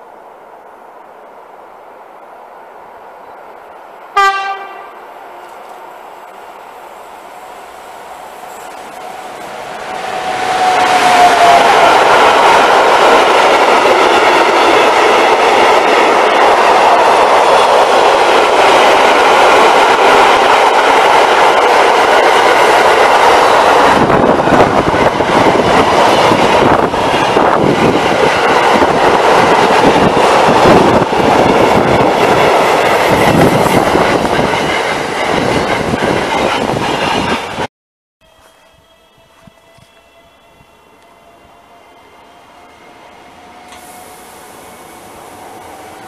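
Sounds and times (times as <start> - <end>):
train wheels rushing on rails: 3.5 - 37.7, 38.7 - 46.0.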